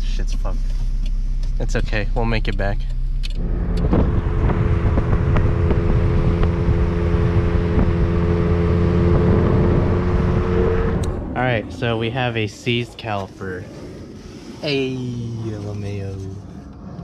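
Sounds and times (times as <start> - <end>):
car engine hum: 0.0 - 17.0
wind and road noise: 0.4 - 17.0.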